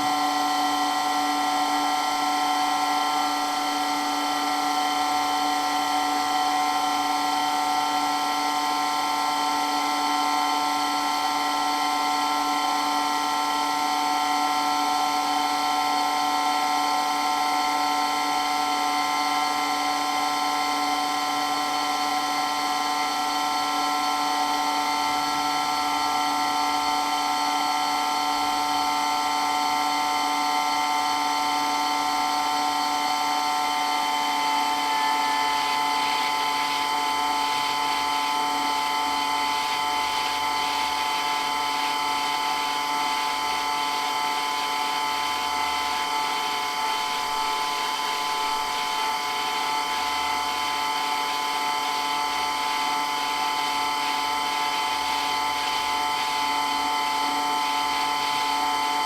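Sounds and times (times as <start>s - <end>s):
water-blasting pump whining: 0.0s - 59.0s.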